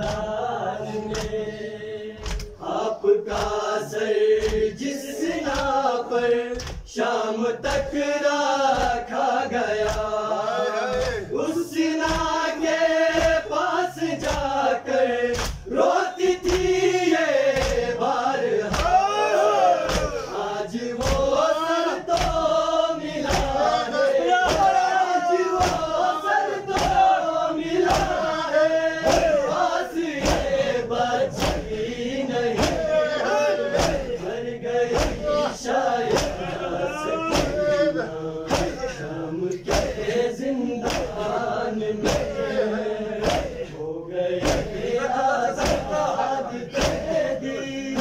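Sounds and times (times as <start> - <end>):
men chanting in unison: 0.0 - 48.0
rhythmic chest-beating: 0.0 - 48.0.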